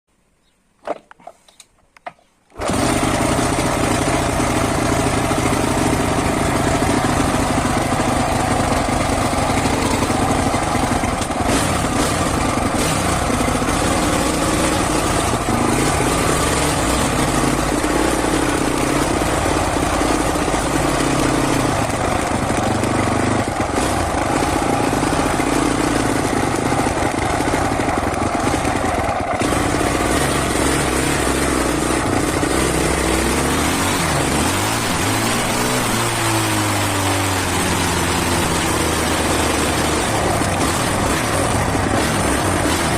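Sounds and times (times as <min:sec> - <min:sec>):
motorcycle engine running: 0:02.6 - 0:42.9.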